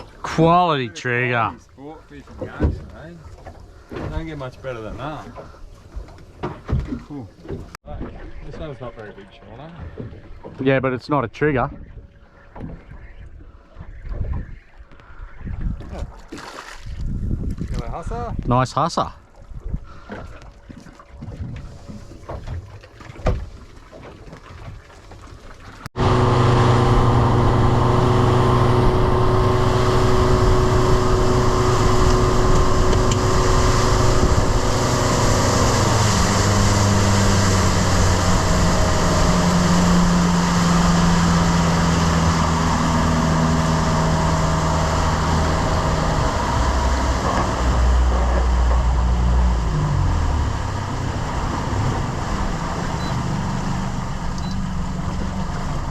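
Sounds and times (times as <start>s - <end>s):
outboard motor running: 0.0s - 18.4s, 19.2s - 55.9s.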